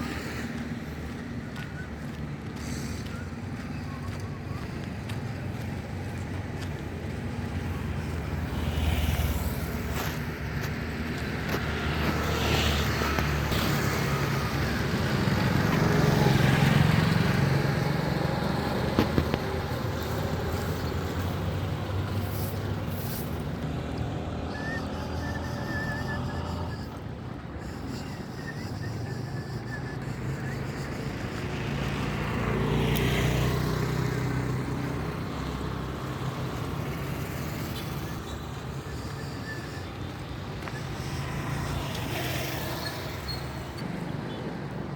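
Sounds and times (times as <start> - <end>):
motor vehicles passing: 0.0 - 44.9
road traffic: 0.0 - 44.9.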